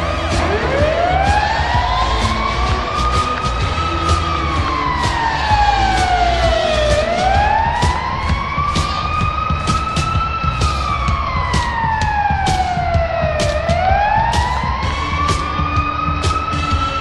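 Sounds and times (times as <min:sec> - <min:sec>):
goal horn siren wailing: 0:00.0 - 0:17.0.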